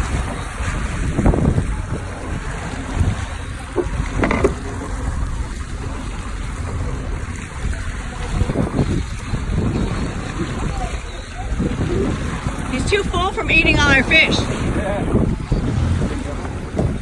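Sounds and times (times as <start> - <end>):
outboard motor running: 0.0 - 17.0
rush of boat wake: 0.0 - 17.0
wind buffeting microphone: 0.0 - 17.0.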